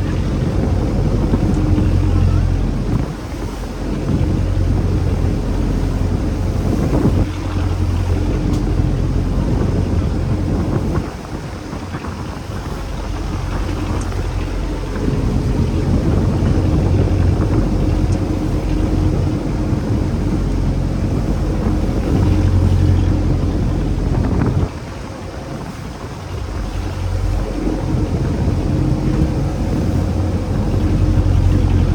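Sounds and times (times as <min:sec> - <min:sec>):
boat engine humming: 0:00.0 - 0:31.9
waves washing: 0:00.0 - 0:31.9
wind buffeting microphone: 0:00.0 - 0:31.9.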